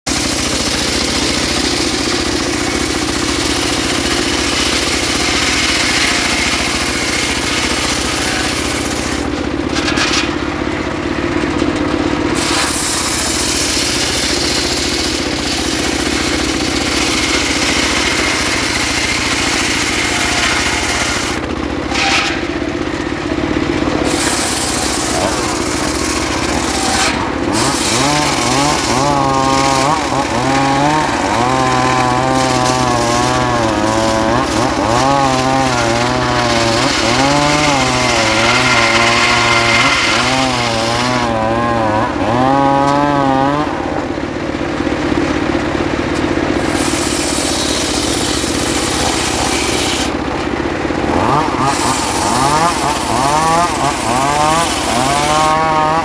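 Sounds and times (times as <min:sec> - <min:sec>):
circular saw blade cutting log: 0:00.1 - 0:56.0
sawmill drive running: 0:00.1 - 0:56.0.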